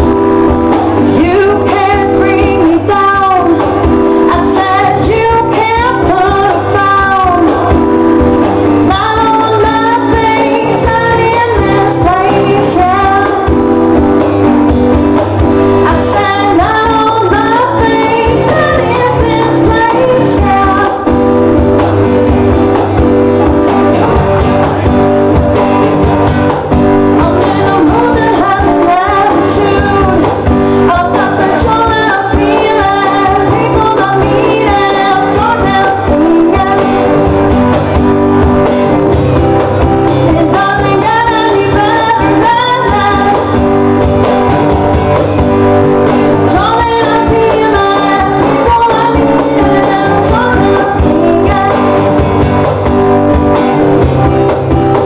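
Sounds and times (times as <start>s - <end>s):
woman singing into microphone: 0.0s - 14.8s, 15.4s - 22.4s, 26.9s - 37.8s, 39.1s - 45.0s, 46.1s - 52.6s
acoustic guitar strumming: 0.0s - 55.0s.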